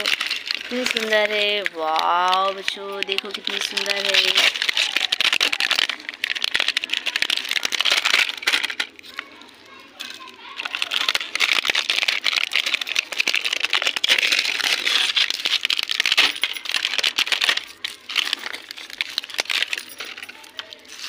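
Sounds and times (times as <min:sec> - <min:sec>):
plastic letters clattering on sand and concrete: 0:00.0 - 0:21.0.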